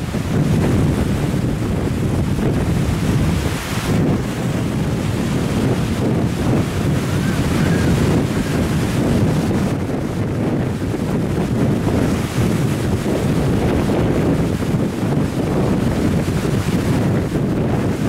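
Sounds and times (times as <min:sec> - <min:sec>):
choppy sea waves: 0:00.0 - 0:18.0
wind buffeting microphone: 0:00.0 - 0:18.0.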